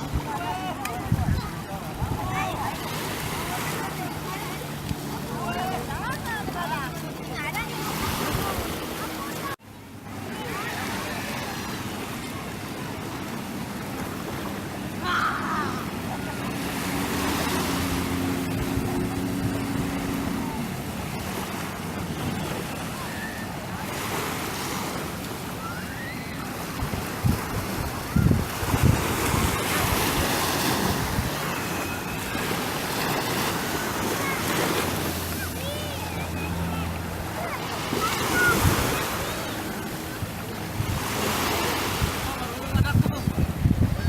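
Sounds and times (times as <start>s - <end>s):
boat engine humming: 0.0s - 44.0s
waves washing: 0.0s - 44.0s
wind: 0.0s - 44.0s.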